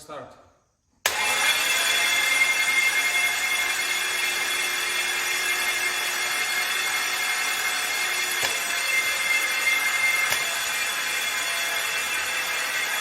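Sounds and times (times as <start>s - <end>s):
starter motor cranking engine: 1.1s - 13.0s.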